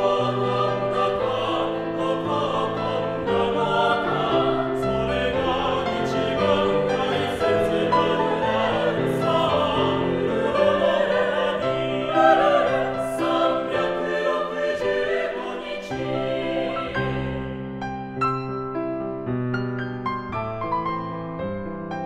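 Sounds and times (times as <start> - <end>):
choir singing in harmony: 0.0 - 18.0.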